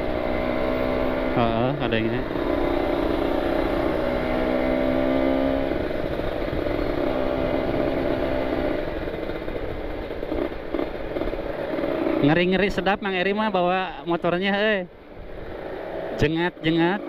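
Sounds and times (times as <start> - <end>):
motorcycle engine running: 0.0 - 17.0
wind and road rush: 0.0 - 17.0.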